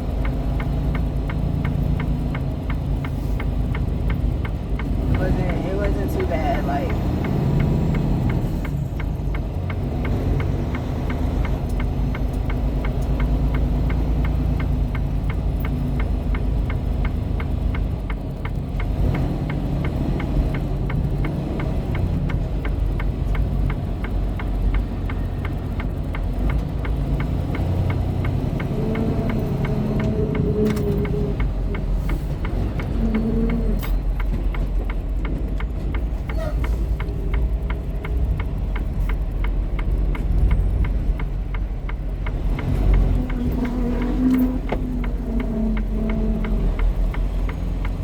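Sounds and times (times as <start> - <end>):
diesel engine rumble from cab: 0.0 - 48.0
fast regular ticking: 0.0 - 48.0.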